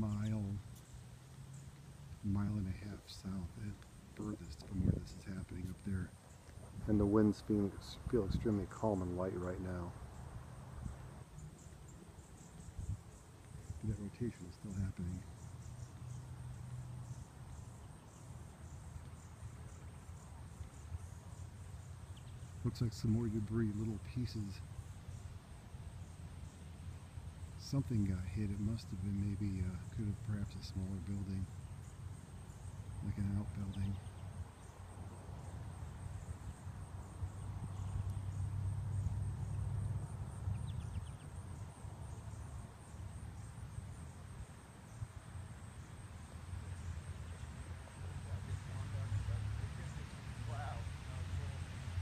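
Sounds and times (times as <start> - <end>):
insects chirping: 0.0 - 52.0
low steady hum: 0.0 - 52.0.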